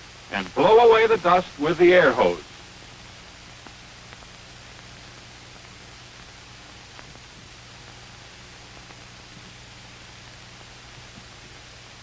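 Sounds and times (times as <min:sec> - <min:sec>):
film soundtrack hiss: 0:00.0 - 0:12.0
low mains hum: 0:00.0 - 0:12.0.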